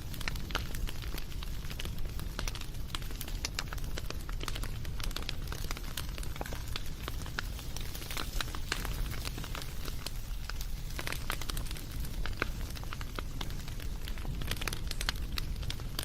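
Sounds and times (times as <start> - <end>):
fire popping and snapping: 0.0 - 16.0
wood fire crackling: 0.0 - 16.0.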